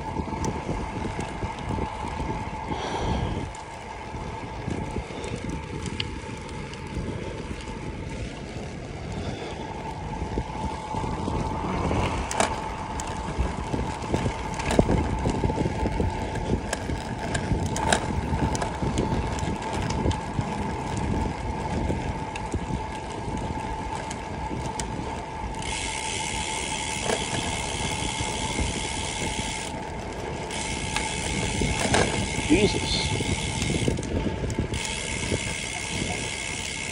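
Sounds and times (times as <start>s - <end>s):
bicycle tyre noise: 0.0s - 36.9s
thin whine: 0.0s - 36.9s
wind rushing over microphone: 0.0s - 36.9s.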